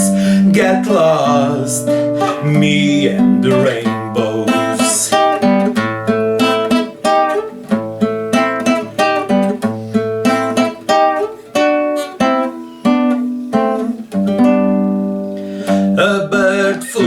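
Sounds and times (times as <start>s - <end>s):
acoustic guitar picking notes: 0.0s - 17.0s.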